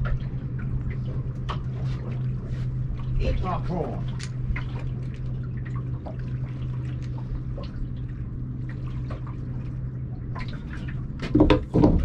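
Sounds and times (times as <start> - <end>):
steady low hum: 0.0 - 12.0
water lapping against boat: 0.0 - 12.0.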